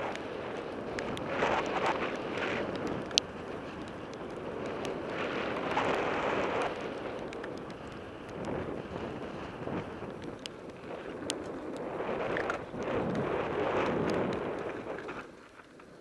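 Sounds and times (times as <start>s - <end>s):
wind on microphone: 0.0s - 15.4s
bike clicks and rattles: 0.0s - 16.0s
bike tyres rumbling on gravel: 0.0s - 16.0s.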